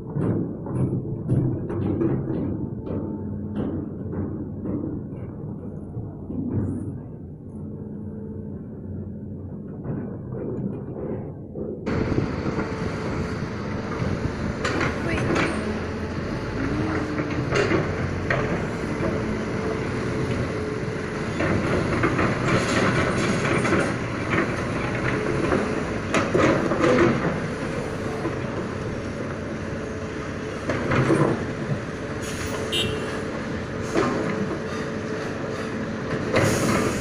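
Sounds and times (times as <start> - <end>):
excavator engine and hydraulic drone: 0.0 - 37.0.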